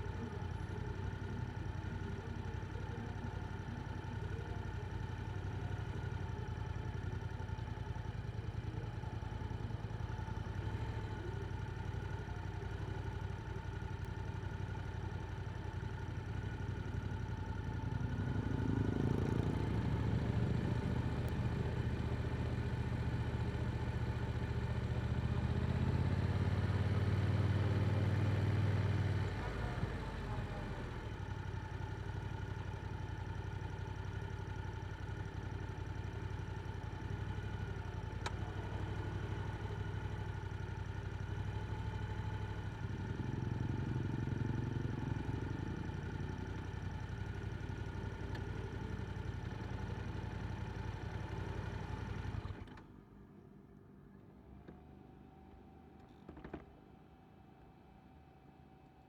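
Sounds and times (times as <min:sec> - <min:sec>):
motorcycle engine running: 0:00.0 - 0:52.7.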